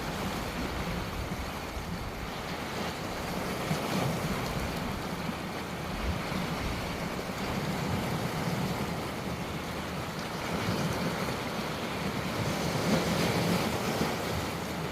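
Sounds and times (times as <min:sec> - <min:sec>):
ocean waves on shore: 0:00.0 - 0:14.9.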